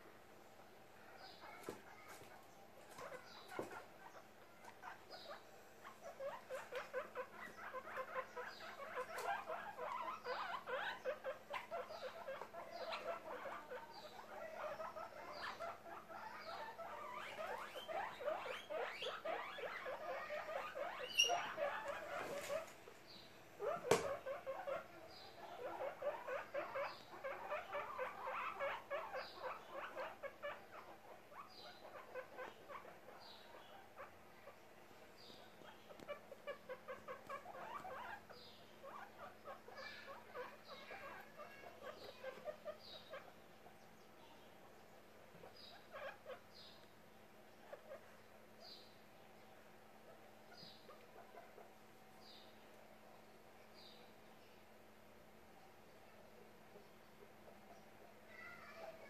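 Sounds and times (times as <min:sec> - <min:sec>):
guinea pigs calling: 0:01.2 - 0:52.6.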